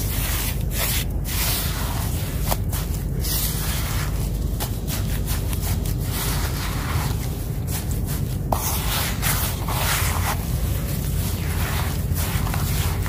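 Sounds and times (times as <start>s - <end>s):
hands squishing wet cement mix: 0.0s - 13.0s.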